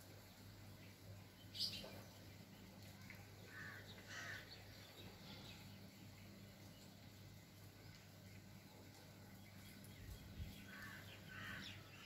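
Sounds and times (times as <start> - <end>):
distant bird calls: 0.2 - 12.0.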